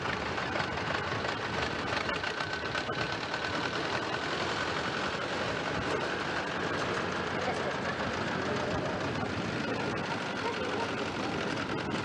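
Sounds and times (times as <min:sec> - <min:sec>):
small tractor engines clattering: 0:00.0 - 0:12.0.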